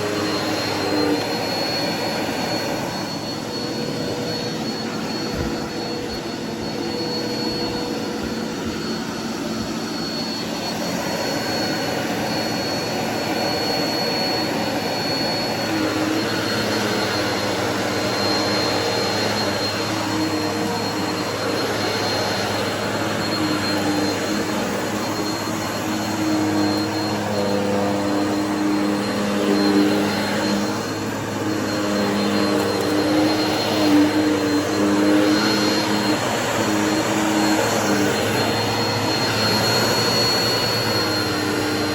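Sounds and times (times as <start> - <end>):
vacuum cleaner whine: 0.0 - 41.9.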